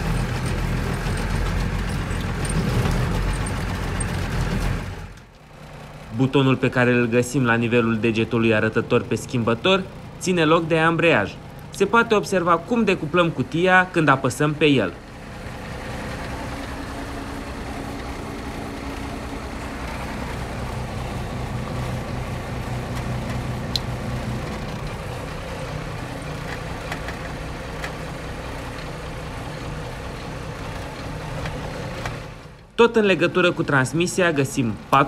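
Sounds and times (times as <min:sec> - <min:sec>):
diesel engine running at low revs: 0:00.0 - 0:35.0.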